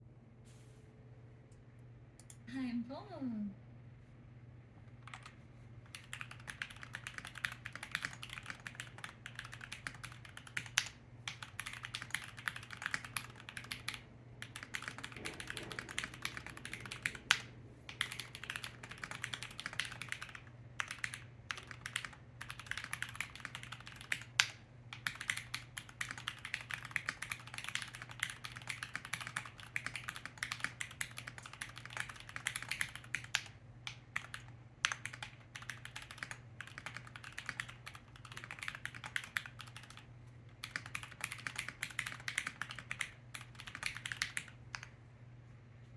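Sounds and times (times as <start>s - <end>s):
faint steady hum: 0.0s - 45.9s
mechanical keyboard typing: 5.0s - 44.9s.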